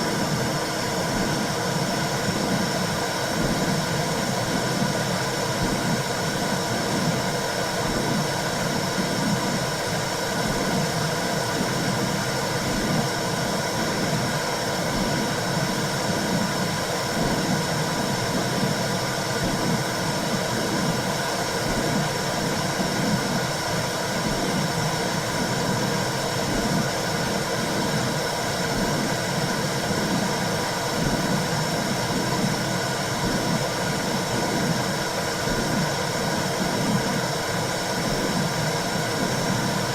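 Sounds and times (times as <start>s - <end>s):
low pulsing throb: 0.0s - 39.9s.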